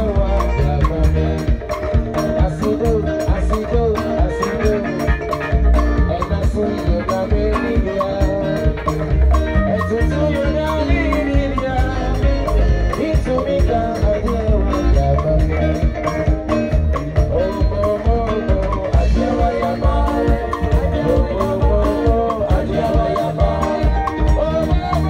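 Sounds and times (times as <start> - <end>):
live band playing gospel: 0.0 - 25.0.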